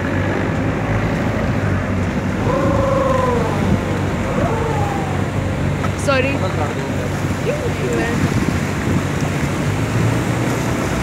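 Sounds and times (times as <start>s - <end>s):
boat engine humming: 0.0s - 11.0s
turbulent river water rushing: 0.0s - 11.0s.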